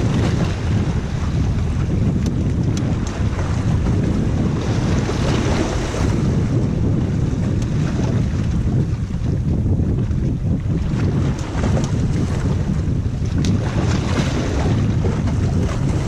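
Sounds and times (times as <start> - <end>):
sea waves washing against rocks: 0.0 - 16.0
wind buffeting microphone: 0.0 - 16.0.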